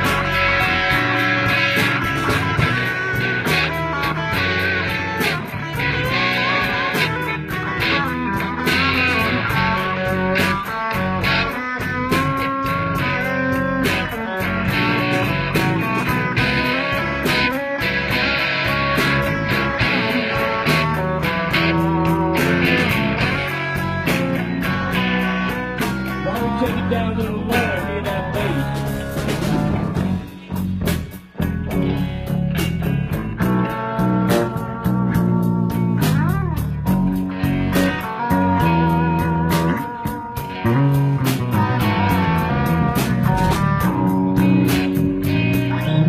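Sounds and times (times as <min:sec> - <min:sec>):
bass and drums: 0:00.0 - 0:46.0
electric guitar: 0:00.0 - 0:46.0.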